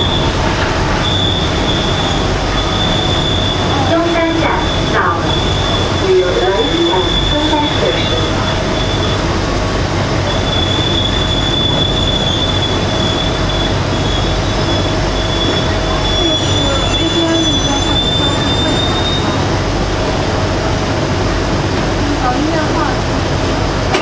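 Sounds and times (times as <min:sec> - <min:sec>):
wheels squealing on rail: 0:00.0 - 0:19.7
train rumbling on rails: 0:00.0 - 0:24.0.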